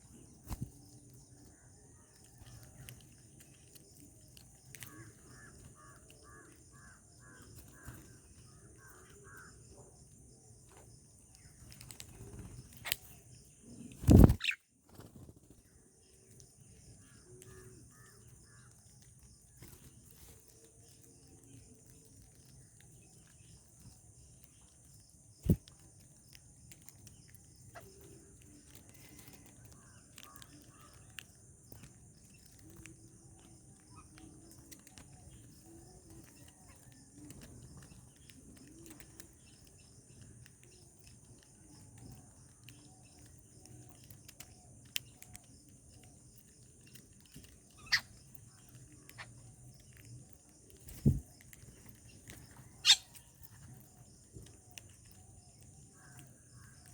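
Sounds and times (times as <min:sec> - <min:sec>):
faint bird sounds: 0:00.0 - 0:56.9.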